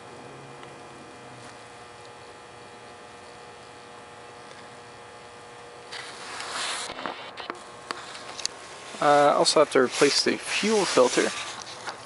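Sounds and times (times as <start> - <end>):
steady hum with held tone: 0.0 - 12.0.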